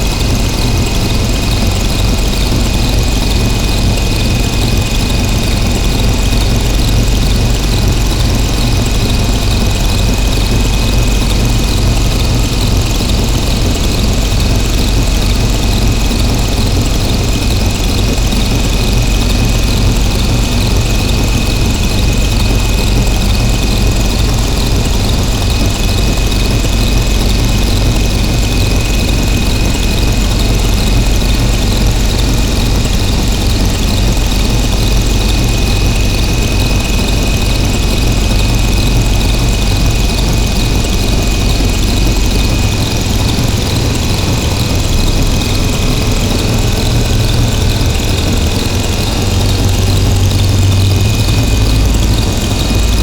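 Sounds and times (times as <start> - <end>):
distorted noise drone: 0.0 - 53.0.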